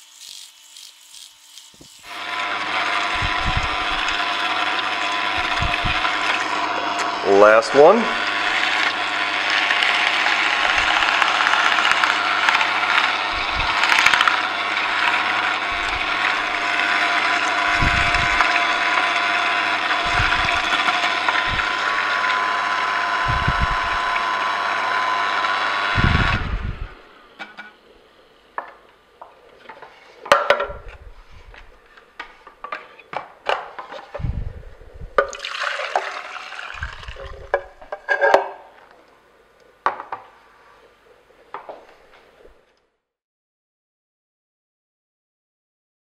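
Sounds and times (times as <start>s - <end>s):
juicers humming: 0.0s - 42.6s.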